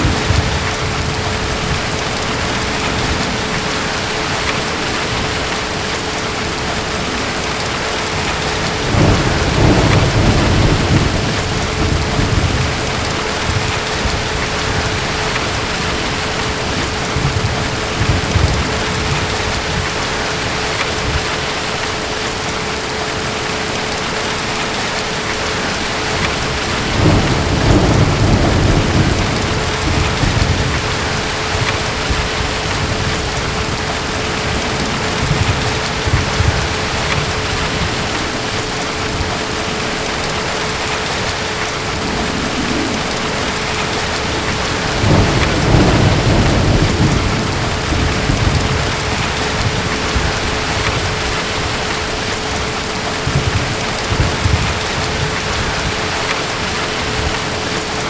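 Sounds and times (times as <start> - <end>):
distant thunder rolling: 0.0 - 21.3, 24.7 - 57.5
heavy rain: 0.0 - 58.0.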